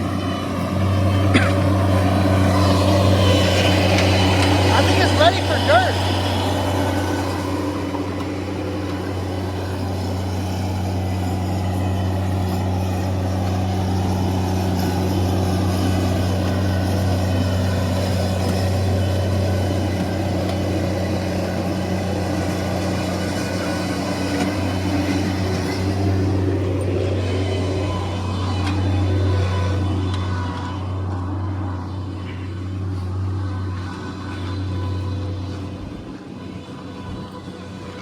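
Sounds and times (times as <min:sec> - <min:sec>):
diesel engine running steadily: 0:00.0 - 0:38.0.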